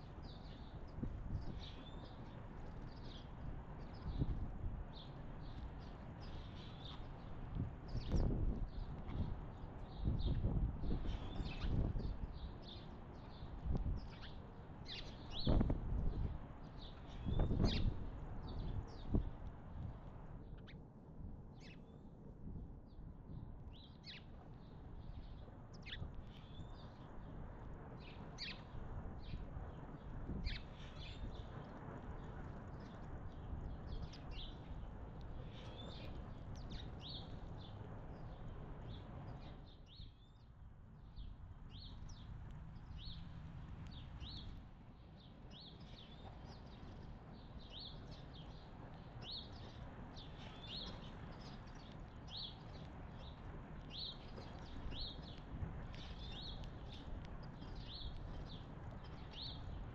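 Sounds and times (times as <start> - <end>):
small birds chirping: 0.0 - 20.9, 21.6 - 22.1, 22.9 - 59.9.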